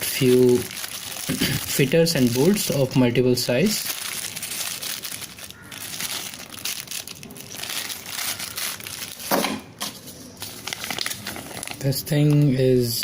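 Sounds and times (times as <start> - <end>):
packaging crinkling: 0.0 - 12.5.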